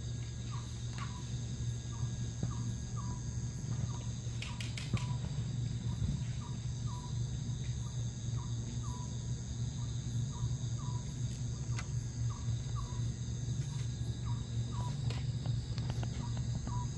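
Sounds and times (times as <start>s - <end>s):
crickets trilling: 0.0s - 16.9s
low steady hum: 0.0s - 16.9s.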